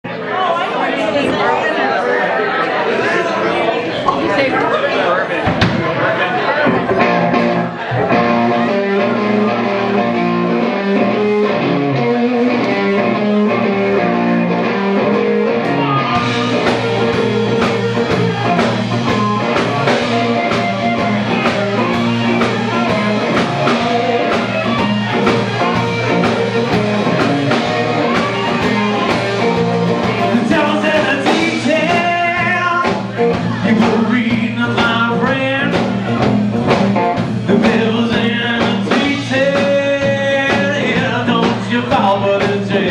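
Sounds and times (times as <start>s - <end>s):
blues-rock band playing: 3.6s - 42.9s.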